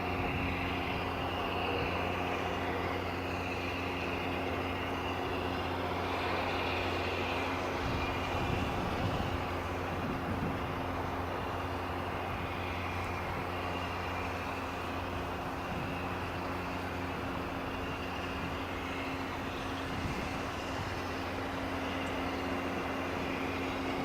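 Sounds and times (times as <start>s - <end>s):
constant high whine: 0.0s - 24.0s
locomotive engines droning: 0.0s - 24.0s.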